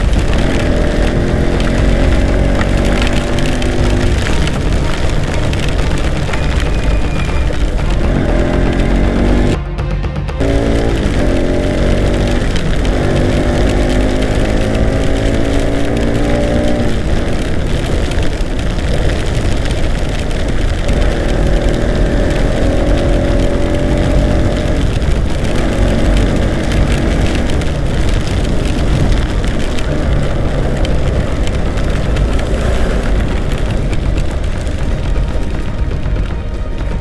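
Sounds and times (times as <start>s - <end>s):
motorcycle engine accelerating: 0.0s - 9.7s, 10.4s - 37.0s
wind noise: 0.0s - 37.0s.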